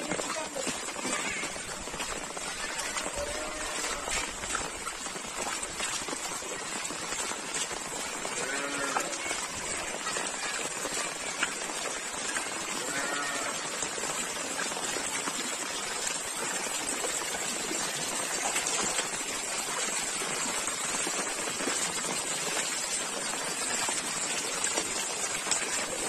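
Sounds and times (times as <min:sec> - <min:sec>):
rain falling on water: 0:00.0 - 0:26.0.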